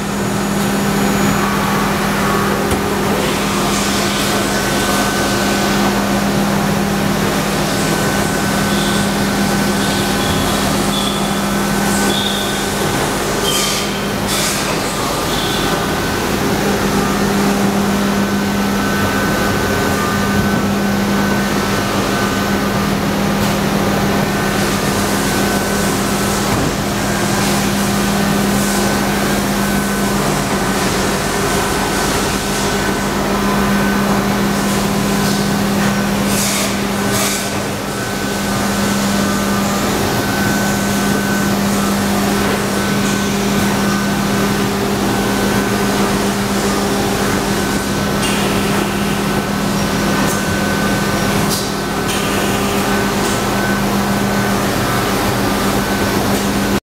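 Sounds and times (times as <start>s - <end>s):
machine hum with high whine: 0.0s - 56.8s.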